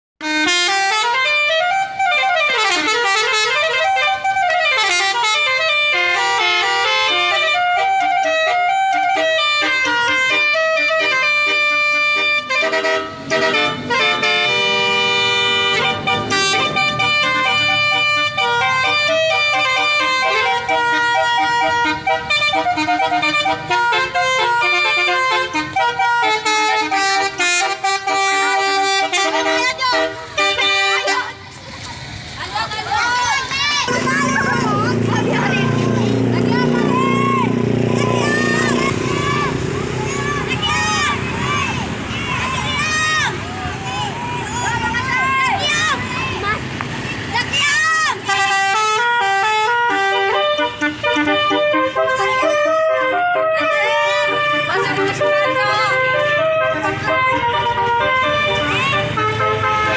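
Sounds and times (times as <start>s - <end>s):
musical bus horn melody: 0.2s - 31.5s, 33.8s - 46.2s, 48.1s - 59.9s.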